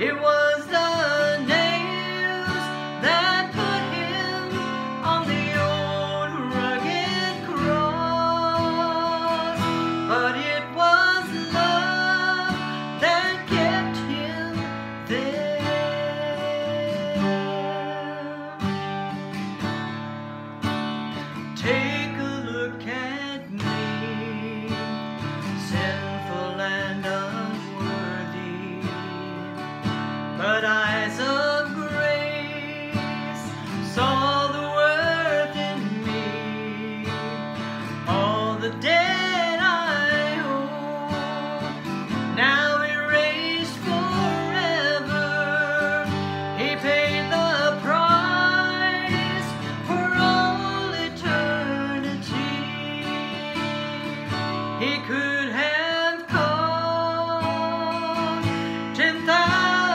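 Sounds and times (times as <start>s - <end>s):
woman singing: 0.0s - 19.0s, 21.6s - 29.6s, 30.4s - 59.9s
acoustic guitar strumming: 0.0s - 59.9s.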